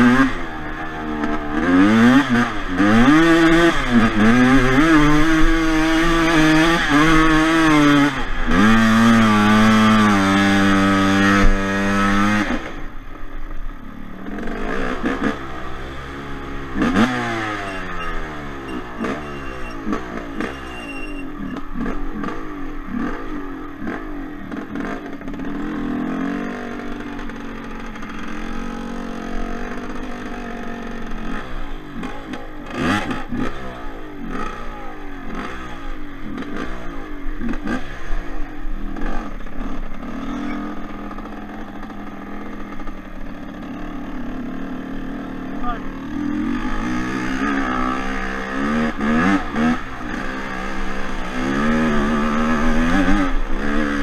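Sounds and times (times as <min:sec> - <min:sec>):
two-stroke engine revving: 0:00.0 - 0:12.9, 0:14.2 - 0:54.0.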